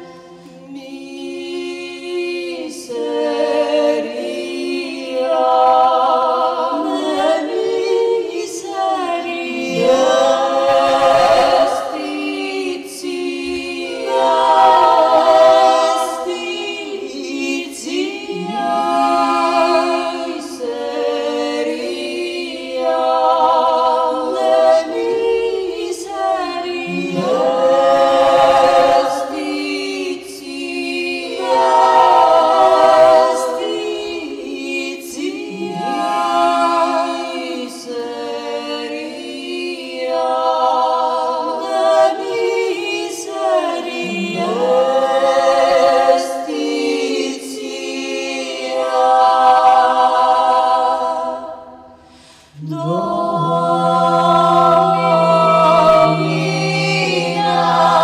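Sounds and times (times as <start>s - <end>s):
women singing a cappella: 0.0s - 58.0s.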